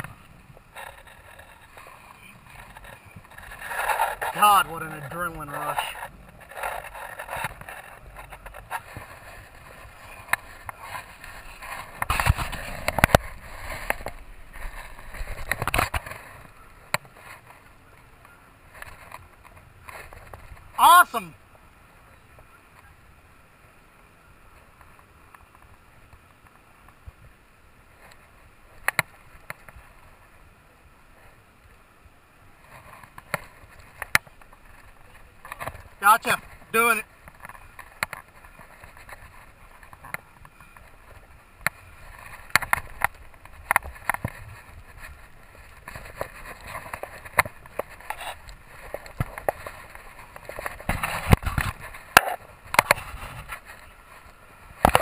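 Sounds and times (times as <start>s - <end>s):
faint background noise: 0.0s - 55.0s.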